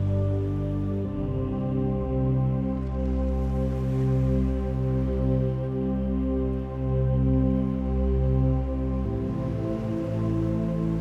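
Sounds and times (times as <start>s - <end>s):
ambient synth chords: 0.0s - 11.0s.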